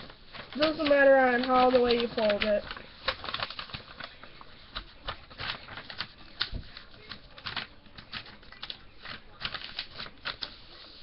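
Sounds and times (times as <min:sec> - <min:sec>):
paper rustling and crackling: 0:00.0 - 0:11.0.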